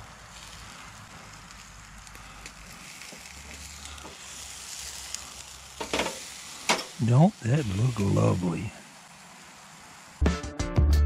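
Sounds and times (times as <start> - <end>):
steaks sizzling on grill: 0.0 - 10.4.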